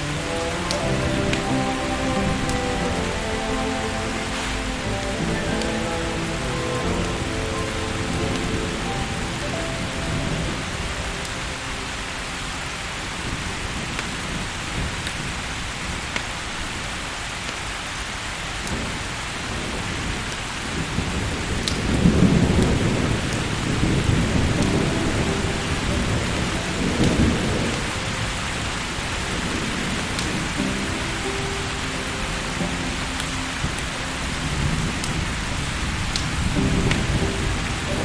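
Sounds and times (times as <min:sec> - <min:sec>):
thunder rumbling: 0:00.0 - 0:16.0, 0:18.7 - 0:38.0
steady rain falling: 0:00.0 - 0:38.0.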